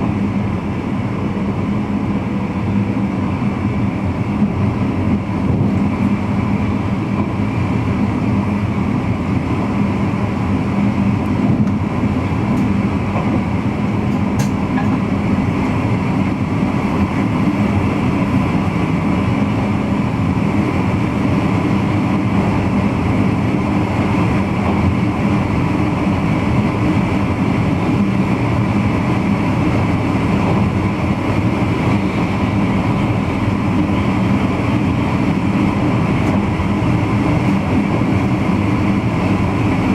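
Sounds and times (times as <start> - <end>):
train wheel-on-rail rumble: 0.0 - 39.9.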